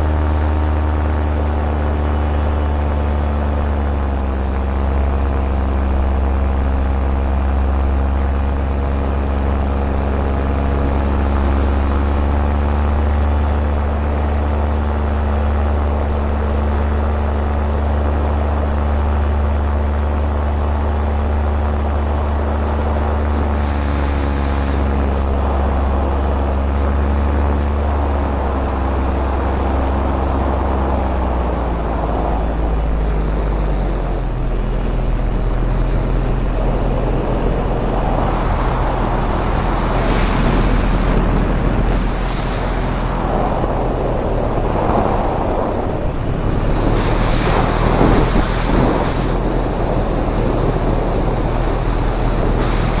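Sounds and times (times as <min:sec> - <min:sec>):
paramotor engine droning: 0:00.0 - 0:53.0
wind rush on microphone: 0:00.0 - 0:53.0.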